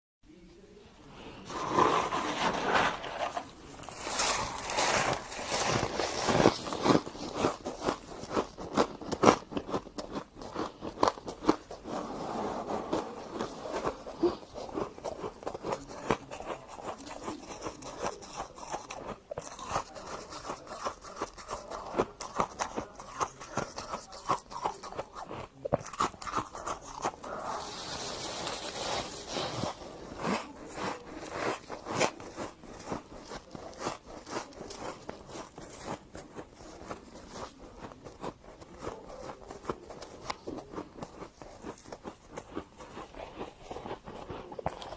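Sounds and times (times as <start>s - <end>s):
chewing frost crunches: 3.1s - 44.9s.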